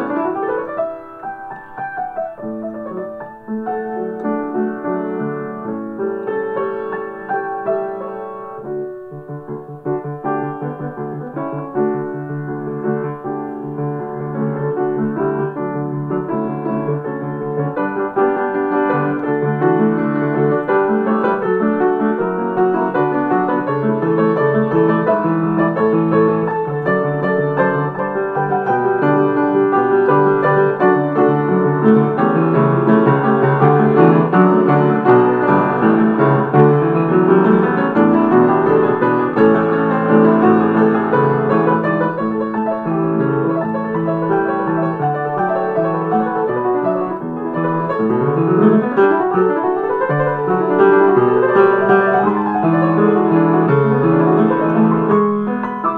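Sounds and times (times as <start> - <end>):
piano music: 0.0 - 55.9.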